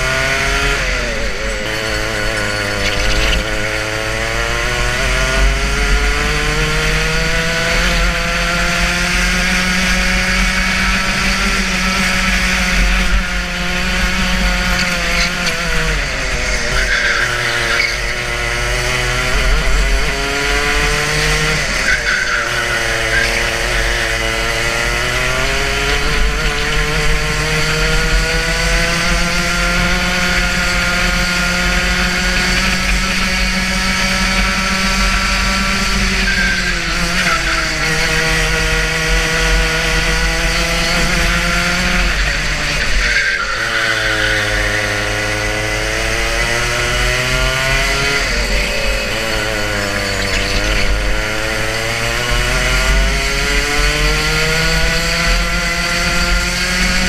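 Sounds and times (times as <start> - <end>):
kart two-stroke engine running hard: 0.0 - 57.0.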